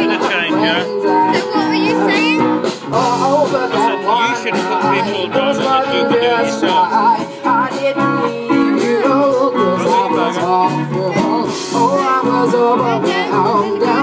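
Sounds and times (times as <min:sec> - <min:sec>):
band playing a song: 0:00.0 - 0:14.0
person singing: 0:00.0 - 0:14.0.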